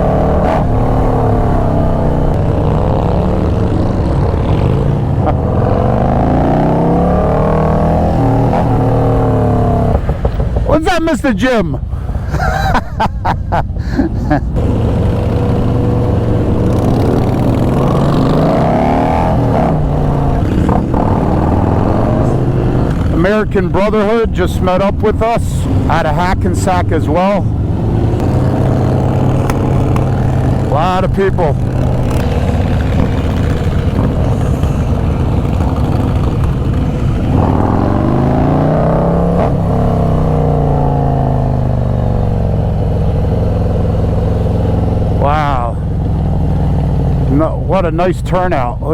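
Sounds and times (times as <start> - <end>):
motorcycle revving: 0.0 - 11.0, 14.1 - 48.9
motorcycle engines running: 0.0 - 11.2, 11.8 - 48.9.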